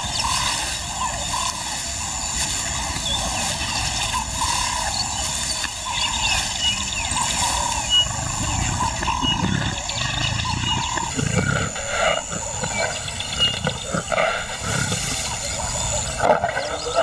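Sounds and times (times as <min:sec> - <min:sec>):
bird calls: 0:00.0 - 0:17.0.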